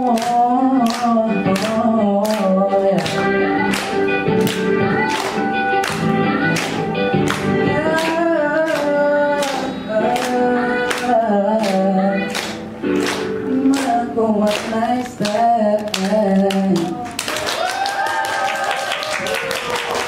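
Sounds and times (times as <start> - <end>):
person singing a slow pop song: 0.0 - 17.2
audience clapping in time: 0.2 - 20.0.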